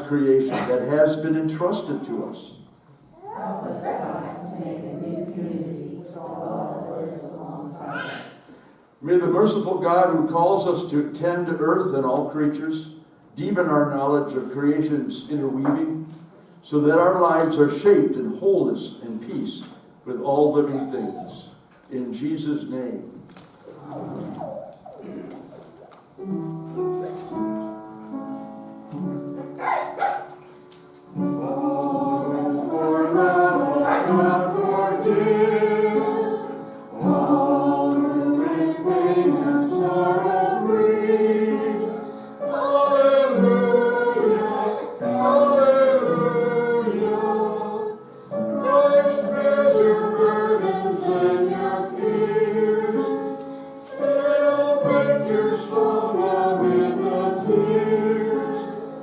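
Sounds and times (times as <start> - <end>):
congregation singing: 0.0 - 2.6, 3.2 - 26.5, 31.1 - 59.0.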